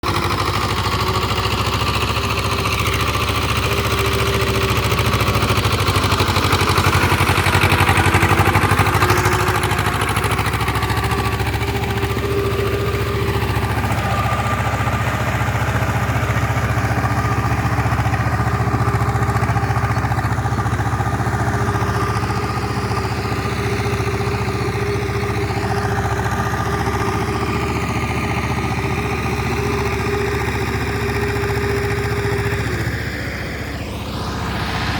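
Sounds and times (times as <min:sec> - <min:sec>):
diesel tractor engine under load: 0:00.0 - 0:34.9.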